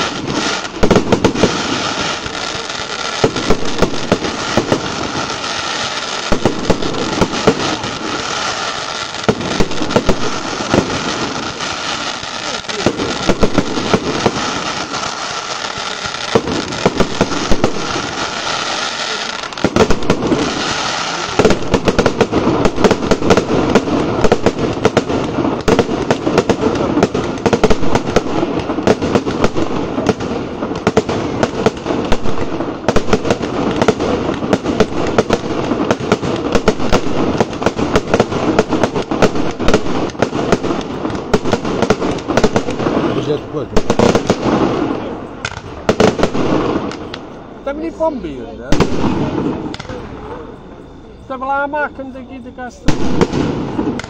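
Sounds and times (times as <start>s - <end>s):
fireworks bangs and crackles: 0.0s - 54.0s
fireworks hissing: 0.0s - 54.0s.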